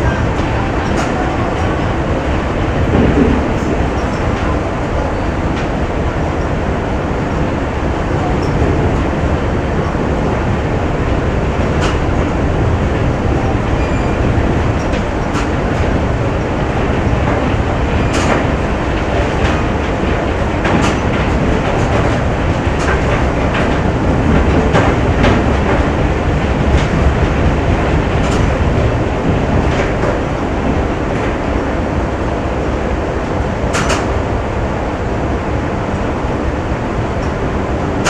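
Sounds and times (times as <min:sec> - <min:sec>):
machinery rumble and clatter: 0:00.0 - 0:38.0.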